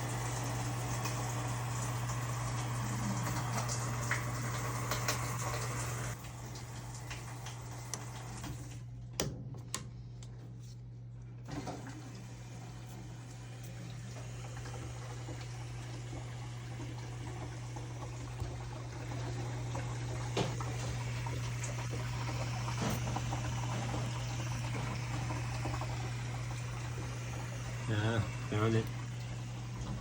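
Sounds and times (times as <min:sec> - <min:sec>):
water rushing into washer: 0:00.0 - 0:08.9, 0:11.4 - 0:30.0.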